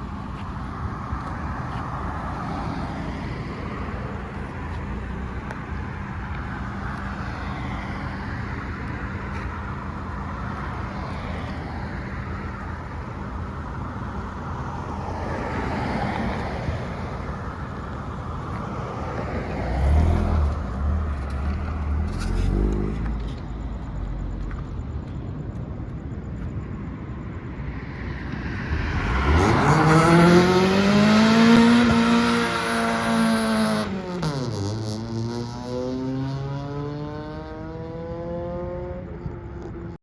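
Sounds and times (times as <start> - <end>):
car engines humming: 0.0 - 40.0.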